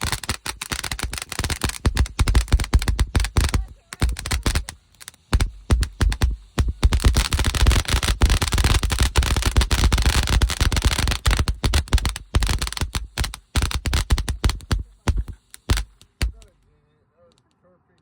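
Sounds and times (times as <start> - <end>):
fireworks banging: 0.0 - 17.5.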